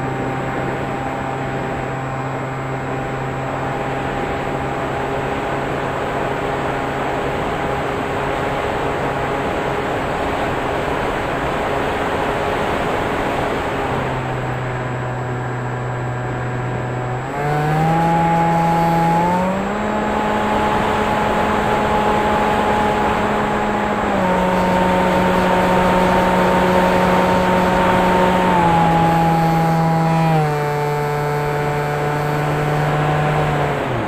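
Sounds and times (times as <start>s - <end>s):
drone motors and propellers whining: 0.0s - 34.0s.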